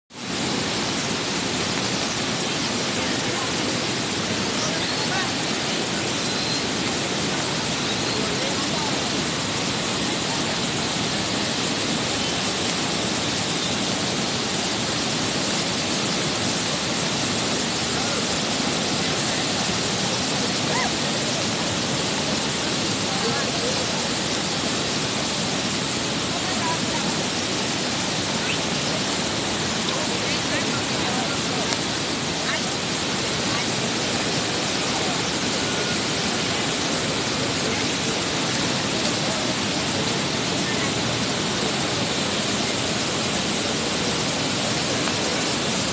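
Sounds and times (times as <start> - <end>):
river floodwater rushing: 0.1 - 45.9.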